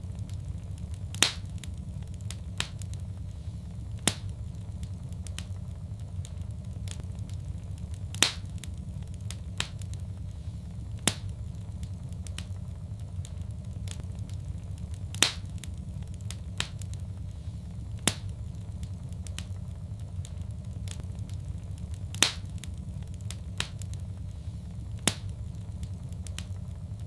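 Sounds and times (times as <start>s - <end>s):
sharp fire pops: 0.0s - 27.0s
wood fire crackling: 0.0s - 27.0s.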